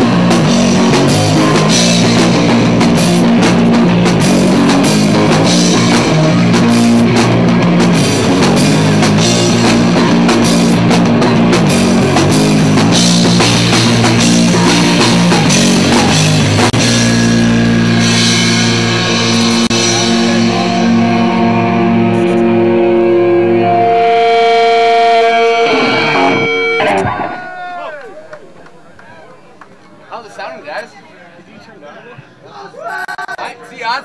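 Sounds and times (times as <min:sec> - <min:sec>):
drum kit: 0:00.0 - 0:28.5
electric guitar: 0:00.0 - 0:28.8
bass guitar: 0:00.0 - 0:29.5.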